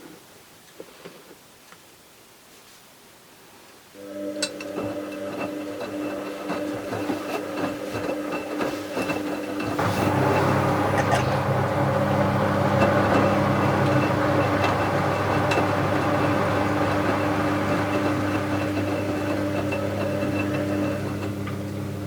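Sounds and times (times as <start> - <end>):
washing machine drum motor: 4.0 - 22.0.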